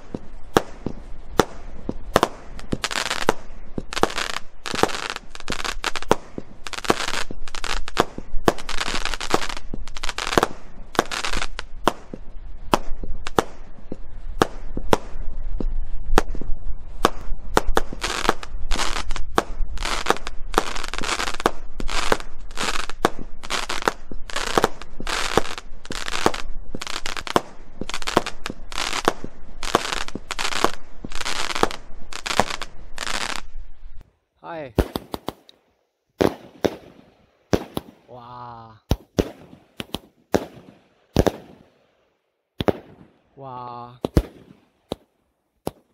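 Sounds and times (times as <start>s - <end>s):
fireworks bursting overhead: 0.0s - 35.6s, 36.2s - 45.9s
fireworks launching: 0.0s - 35.6s, 36.2s - 45.9s.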